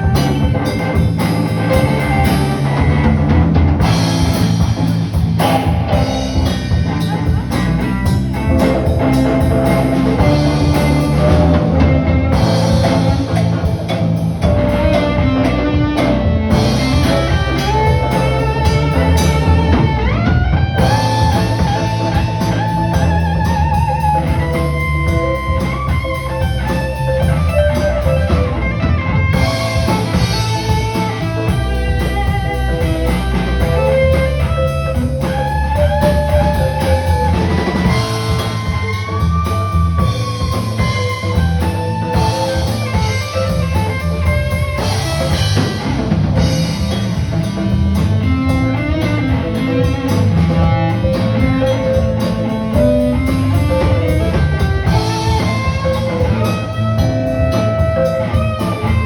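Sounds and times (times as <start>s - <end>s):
drum kit: 0.0s - 59.0s
guitar lead line sliding upward: 0.0s - 59.0s
guitars: 0.0s - 59.0s.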